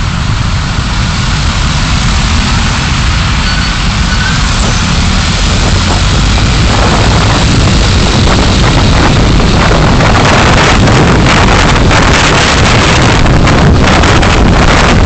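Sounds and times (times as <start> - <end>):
car engine rumble: 0.0 - 15.0
road and wind noise: 0.0 - 15.0.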